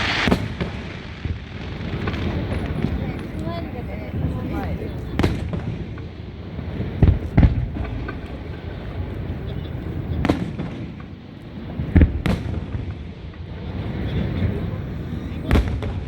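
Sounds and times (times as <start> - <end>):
background rumble: 0.0 - 16.0
fireworks booming: 0.0 - 16.0.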